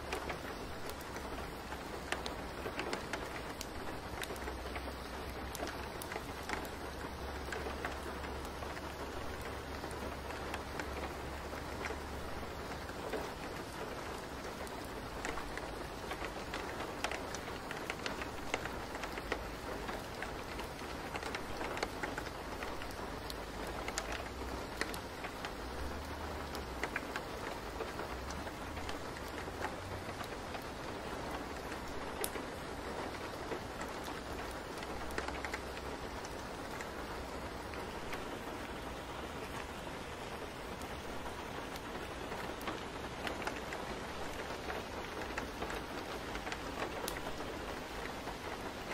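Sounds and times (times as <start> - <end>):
single raindrops ticking: 0.0 - 48.9
steady rain hiss: 0.0 - 48.9.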